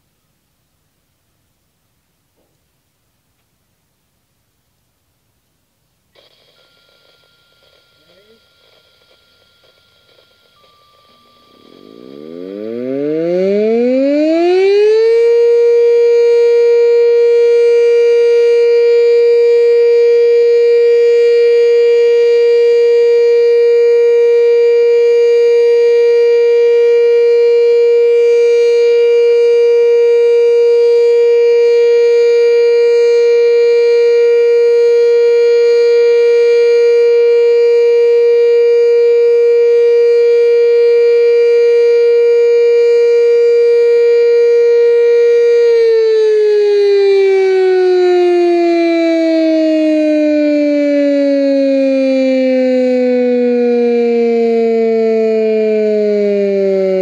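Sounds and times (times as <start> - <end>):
warning siren steady tone: 6.2 - 57.0.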